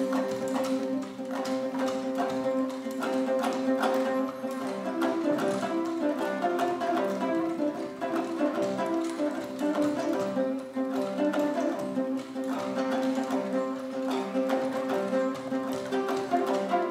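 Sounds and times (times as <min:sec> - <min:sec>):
plucked string folk music: 0:00.0 - 0:16.9.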